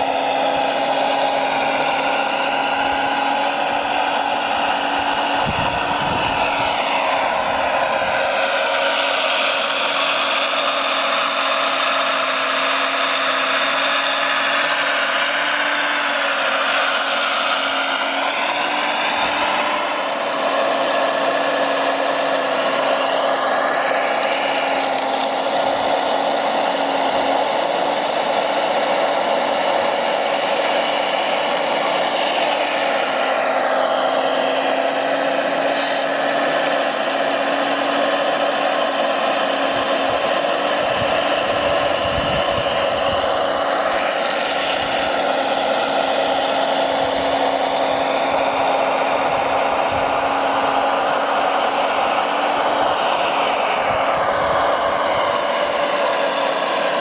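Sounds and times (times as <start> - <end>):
small motors whirring and rattling: 0.0 - 15.4, 16.1 - 53.6.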